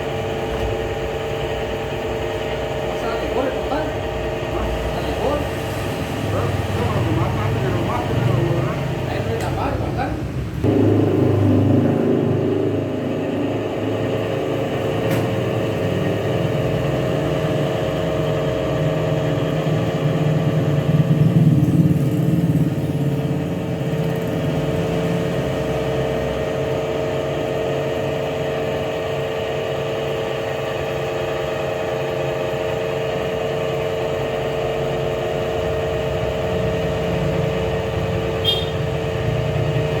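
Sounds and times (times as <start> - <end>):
machine motor humming: 0.0 - 40.0.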